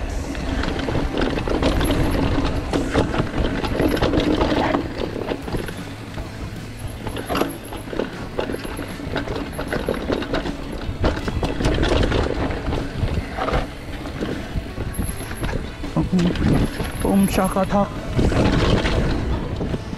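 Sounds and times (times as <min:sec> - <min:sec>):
bike knocking and clattering: 0:00.0 - 0:19.9
tyres rumbling on dirt: 0:00.0 - 0:19.9.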